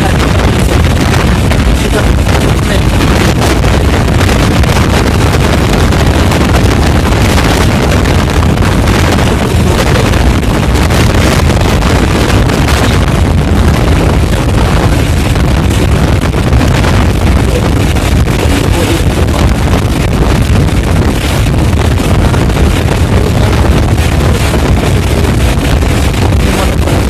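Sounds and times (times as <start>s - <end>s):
tyres and engine rumble: 0.0s - 27.0s
wind and road noise: 0.0s - 27.0s
wind buffeting microphone: 0.0s - 27.0s.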